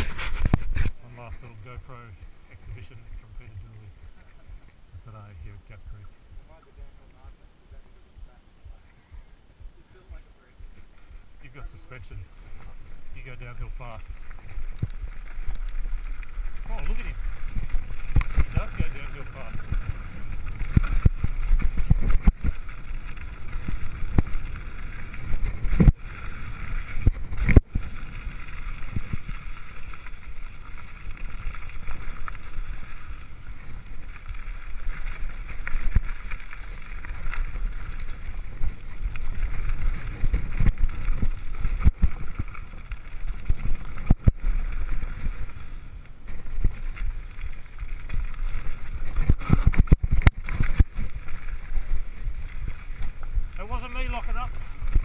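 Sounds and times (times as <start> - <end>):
bike tyre rumble: 0.0 - 55.0
wind buffeting: 0.0 - 55.0
bike knocking and rattling: 10.2 - 55.0.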